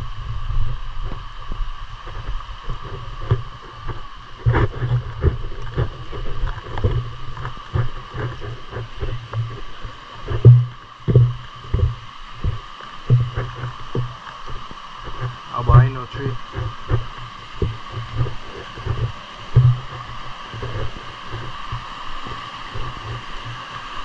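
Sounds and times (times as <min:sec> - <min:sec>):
river flowing: 0:00.0 - 0:24.0
footsteps on wooden boardwalk: 0:00.7 - 0:24.0.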